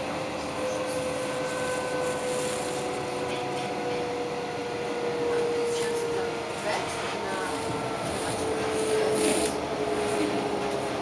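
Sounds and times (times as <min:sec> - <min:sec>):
tram wheels rolling on rails: 0:00.0 - 0:11.0.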